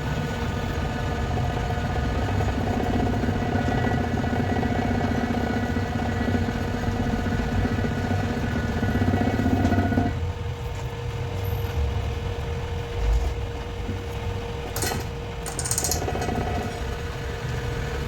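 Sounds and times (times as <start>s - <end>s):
machinery rumbling and whining: 0.0s - 18.0s.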